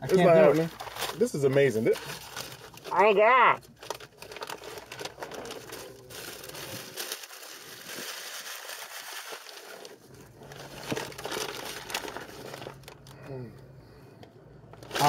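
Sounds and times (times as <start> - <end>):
paper wrapping crinkling: 0.0 - 13.2, 14.7 - 15.0.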